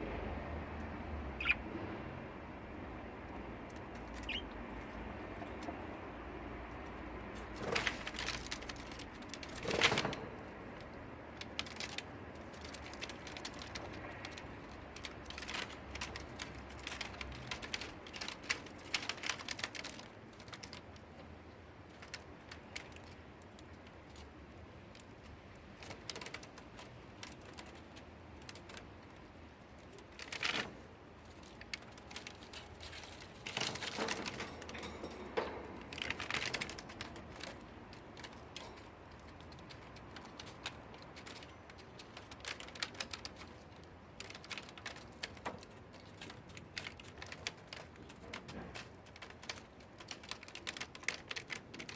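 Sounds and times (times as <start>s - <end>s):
budgies pecking with beaks: 0.7s - 1.9s, 2.7s - 10.2s, 11.1s - 35.0s, 35.7s - 51.9s.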